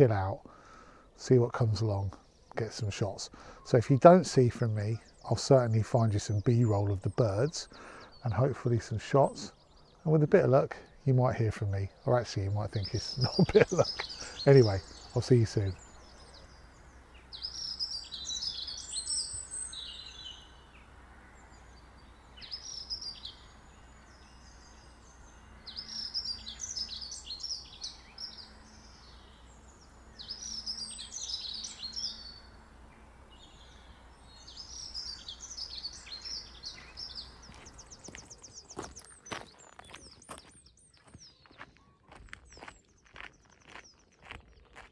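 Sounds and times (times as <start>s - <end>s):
faint steady background noise: 0.0s - 44.9s
songbird singing: 0.0s - 44.9s.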